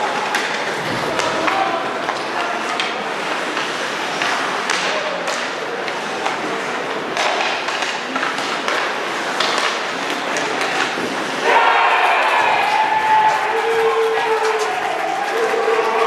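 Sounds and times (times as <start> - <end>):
hockey sticks and puck clacking: 0.0 - 16.0
skate blades scraping ice: 0.1 - 16.0.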